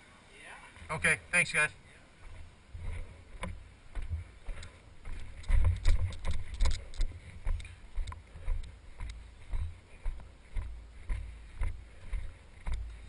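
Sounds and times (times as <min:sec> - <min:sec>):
footsteps on decking and concrete: 0:02.2 - 0:13.0.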